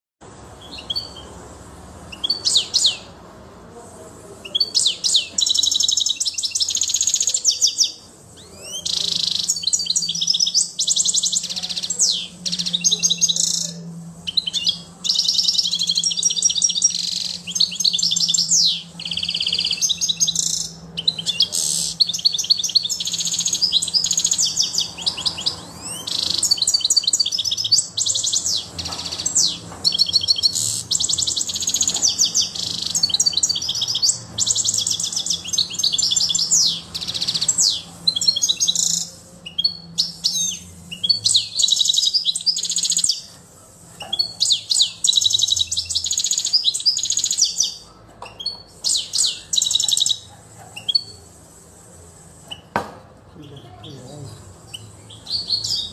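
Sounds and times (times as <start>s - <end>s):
faint low hum: 0.2s - 55.9s
goldfinch singing: 0.6s - 1.4s, 2.1s - 3.1s, 4.4s - 43.4s, 44.0s - 51.2s.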